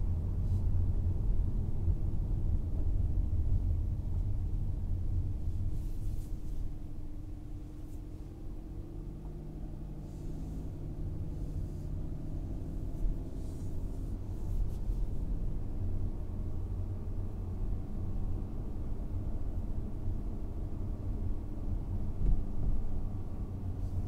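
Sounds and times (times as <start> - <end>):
car engine running: 0.0 - 24.0
road and tyre noise: 0.0 - 24.0.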